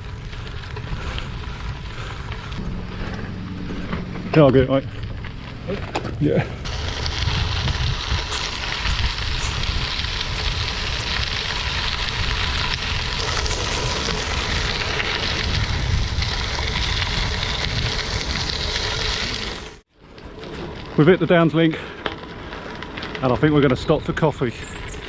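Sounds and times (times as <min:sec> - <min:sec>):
wind rumbling on microphone: 0:00.0 - 0:05.7, 0:06.5 - 0:21.3
bike tyres rolling on damp track: 0:00.0 - 0:25.0.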